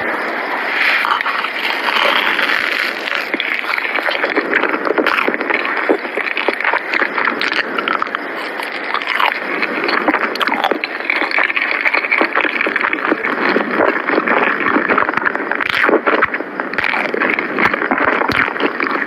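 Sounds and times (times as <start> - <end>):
person chewing cake: 0.7 - 19.0.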